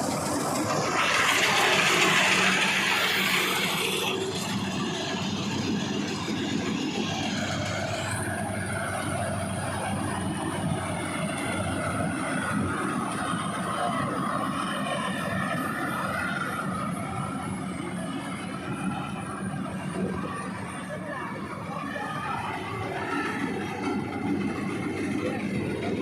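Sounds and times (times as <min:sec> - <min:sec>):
combine harvester running: 0:00.0 - 0:26.0.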